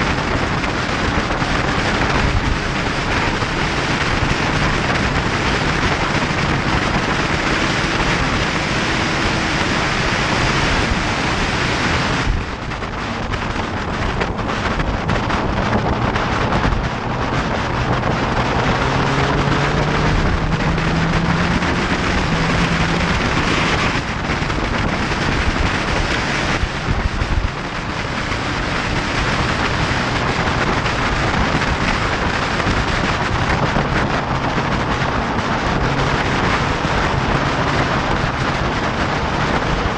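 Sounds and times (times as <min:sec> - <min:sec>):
motorcycle engine: 0:00.0 - 0:39.9
wind noise on microphone: 0:00.0 - 0:39.9.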